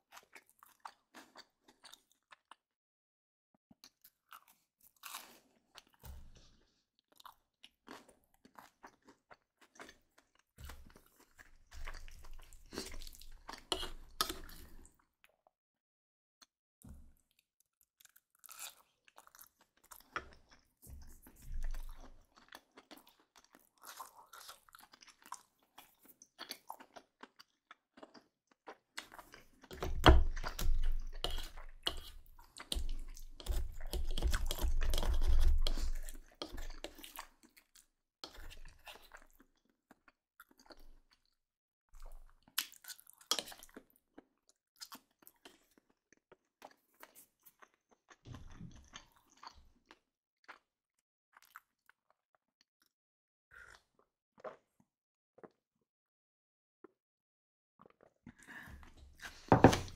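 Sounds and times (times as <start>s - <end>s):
chewing crunchy bread: 0.0s - 2.8s, 3.7s - 15.5s, 16.9s - 55.9s, 57.8s - 59.9s.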